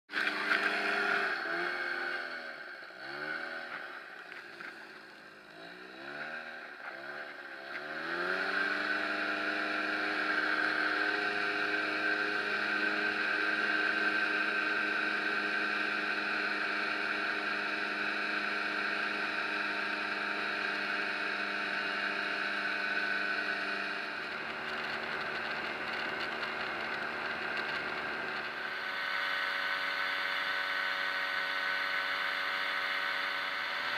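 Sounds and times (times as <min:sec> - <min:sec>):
engine and propeller revving: 0:00.1 - 0:33.9.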